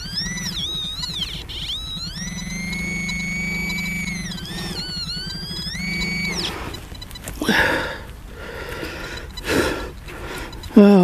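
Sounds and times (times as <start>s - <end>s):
metal detector tone: 0.0s - 11.0s.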